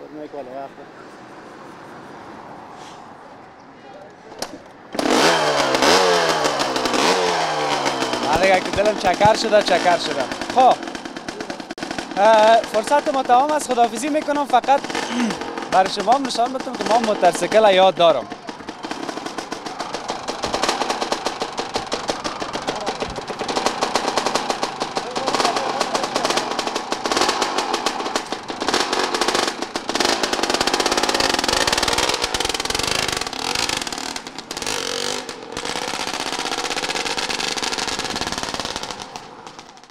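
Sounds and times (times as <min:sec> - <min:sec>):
dirt bike engine revving: 0:04.9 - 0:39.6.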